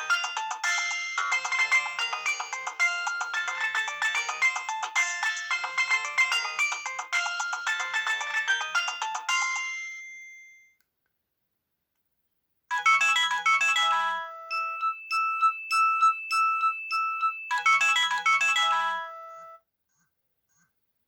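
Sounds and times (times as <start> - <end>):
polyphonic phone ringtone: 0.0 - 10.8, 12.7 - 19.6.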